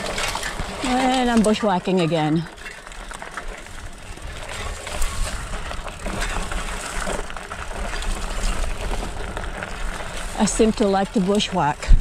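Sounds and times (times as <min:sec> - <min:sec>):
brush and twigs rustling: 0:00.0 - 0:12.0.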